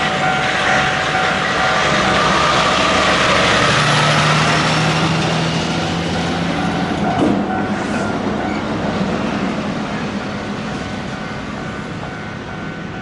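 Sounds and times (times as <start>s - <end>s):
road noise: 0.0s - 13.0s
truck diesel engine passing: 0.0s - 13.0s.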